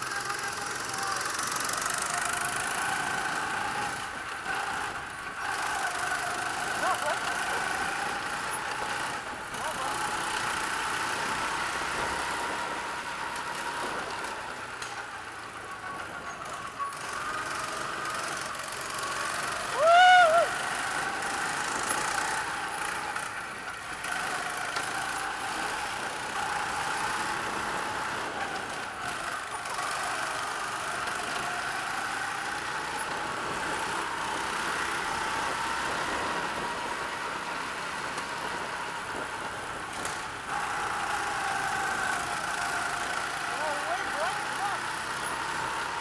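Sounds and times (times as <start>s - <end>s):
go-kart engine running: 0.0s - 46.0s.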